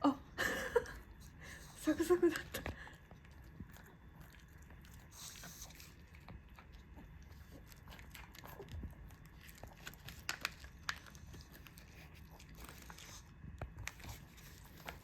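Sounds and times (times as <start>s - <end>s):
dog crunching a treat: 2.3s - 15.0s.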